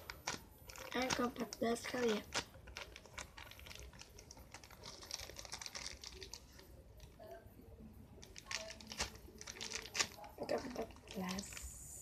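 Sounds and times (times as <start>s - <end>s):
squishy toy clicks and rustles: 0.0s - 7.2s, 8.2s - 11.7s.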